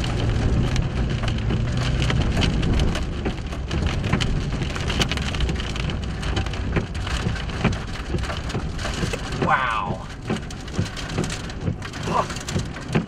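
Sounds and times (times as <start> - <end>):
rain on vehicle roof: 0.0 - 13.0
vehicle rolling on gravel: 0.0 - 13.0.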